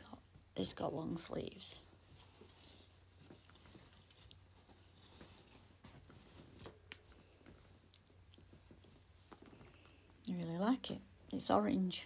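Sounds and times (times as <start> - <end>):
fabric rustling: 1.4 - 11.3.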